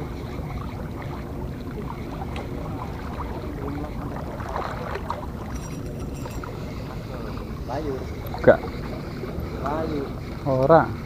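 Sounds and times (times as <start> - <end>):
small waves lapping on rocks: 0.0 - 11.0.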